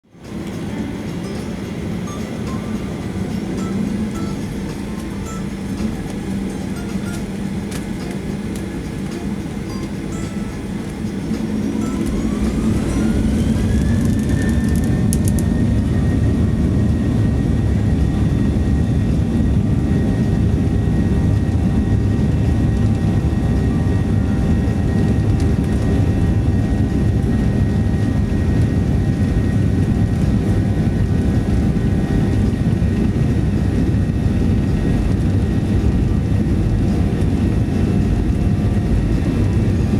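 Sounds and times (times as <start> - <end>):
jet engine whine: 0.0 - 39.9
jet engine rumble: 0.1 - 39.9.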